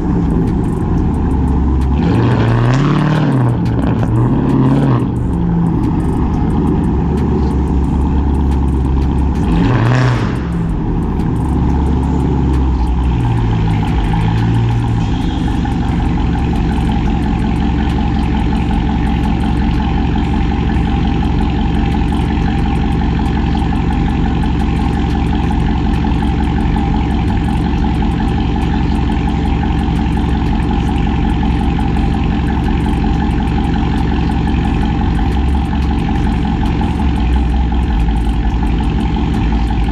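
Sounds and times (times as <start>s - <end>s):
loud exhaust low rumble: 0.0s - 39.9s.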